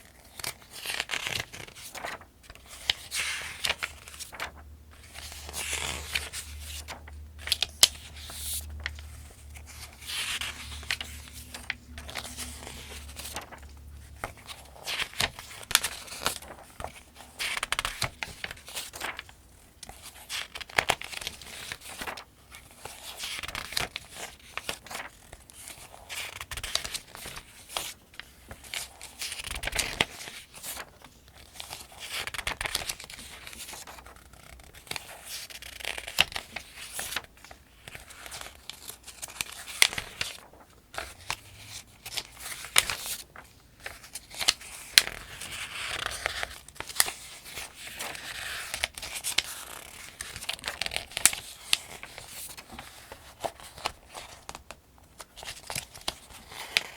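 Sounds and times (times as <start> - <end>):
paper pages turning: 0.1 - 56.9.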